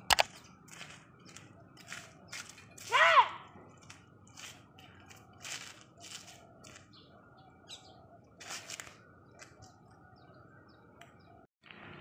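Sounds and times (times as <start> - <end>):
small birds chirping: 0.0 - 3.0, 3.7 - 11.5
faint outdoor background noise: 0.0 - 12.0.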